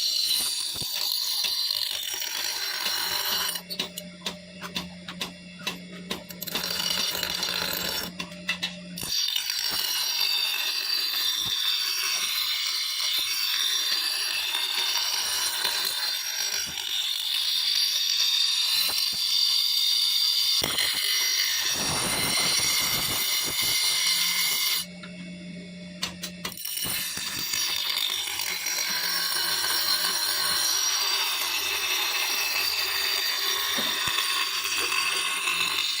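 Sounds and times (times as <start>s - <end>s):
power tool grinding steel: 0.0s - 4.0s, 6.3s - 8.2s, 9.0s - 24.9s, 26.5s - 36.0s.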